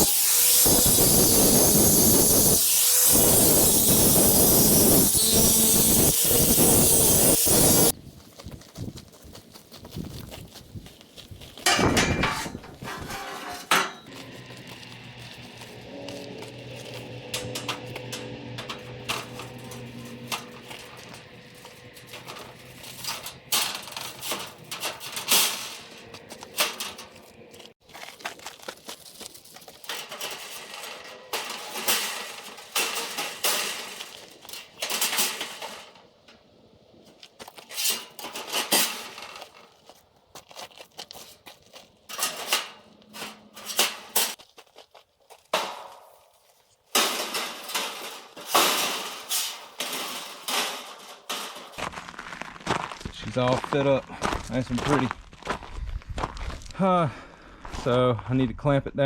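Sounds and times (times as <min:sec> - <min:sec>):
steel parts clanking and scraping: 0:00.0 - 0:07.9, 0:11.6 - 0:28.2, 0:29.2 - 0:44.4, 0:45.5 - 0:54.4.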